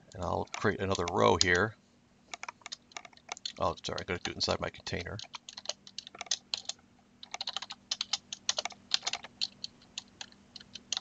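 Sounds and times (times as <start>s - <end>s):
typing on computer keyboard: 0.4s - 1.6s, 2.3s - 11.0s.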